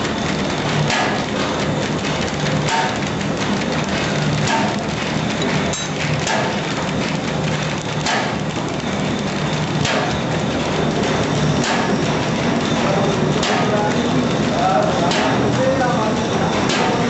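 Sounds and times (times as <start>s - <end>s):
machine knock: 0.0s - 9.1s, 9.8s - 17.0s
machine mechanical clatter: 0.0s - 17.0s.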